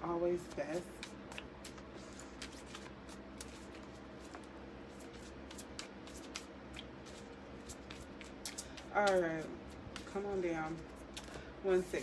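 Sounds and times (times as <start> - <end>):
cards being shuffled: 0.5 - 10.2.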